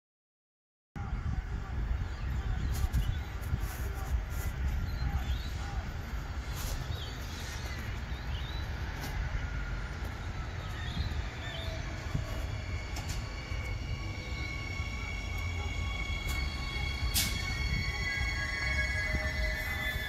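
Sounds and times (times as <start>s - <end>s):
electric train rumble: 1.0s - 20.0s
high-pitched train whine: 3.3s - 20.0s.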